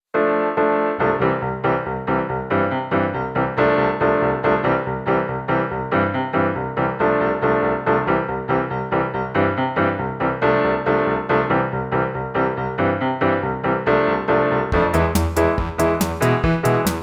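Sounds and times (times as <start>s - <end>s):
keyboard chords: 0.2s - 17.0s.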